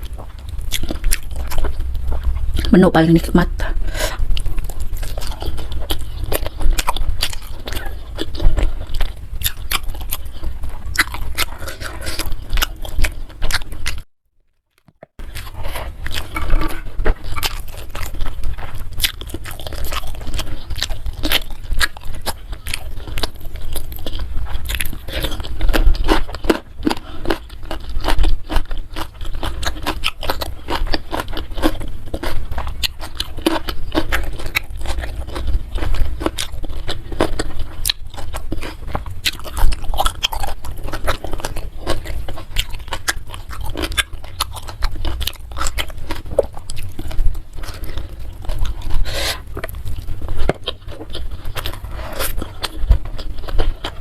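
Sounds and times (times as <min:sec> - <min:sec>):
chewing food with crunches: 0:00.0 - 0:54.0.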